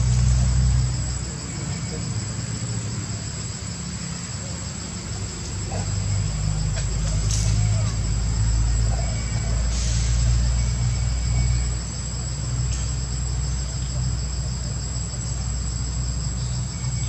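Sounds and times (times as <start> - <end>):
shrill insect chorus: 0.0 - 17.0.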